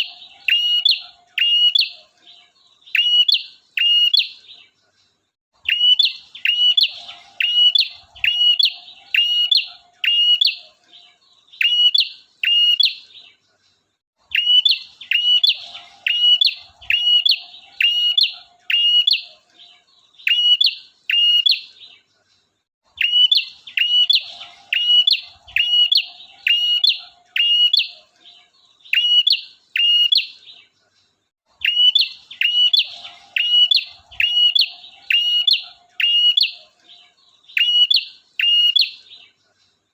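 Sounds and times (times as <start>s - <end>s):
bird chirping sharply: 0.0s - 4.5s, 5.6s - 13.0s, 14.3s - 21.7s, 23.0s - 30.4s, 31.6s - 39.0s.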